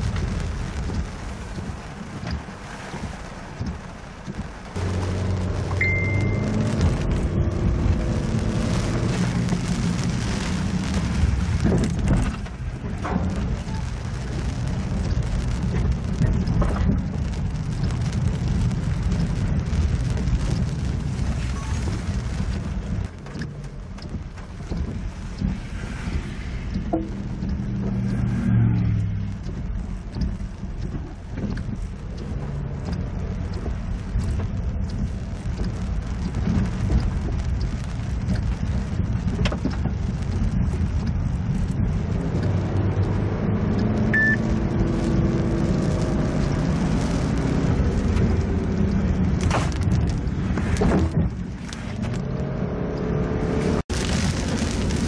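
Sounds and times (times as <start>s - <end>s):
car engine: 0.0s - 55.0s
rain on car: 0.0s - 55.0s
tyres rumbling on wet road: 0.0s - 55.0s.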